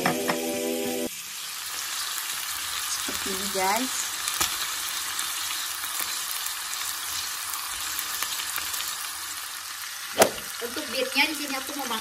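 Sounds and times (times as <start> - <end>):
chicken sizzling in butter: 0.0 - 12.0.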